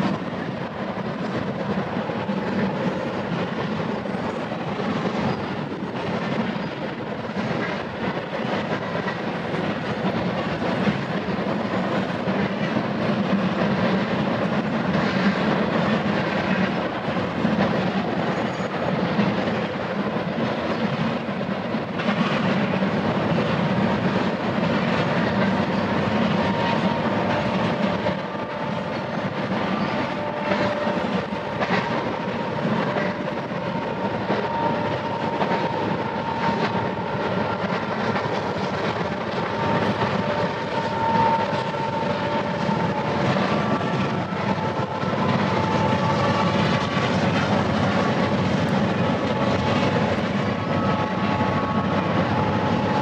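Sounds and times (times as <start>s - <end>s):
freight train wheels rumbling: 0.0s - 53.0s
wheels clickety-clack: 0.0s - 53.0s.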